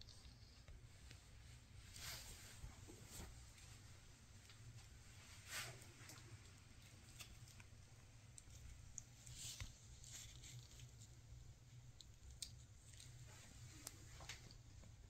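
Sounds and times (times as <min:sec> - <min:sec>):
soft rustles: 0:00.0 - 0:15.0.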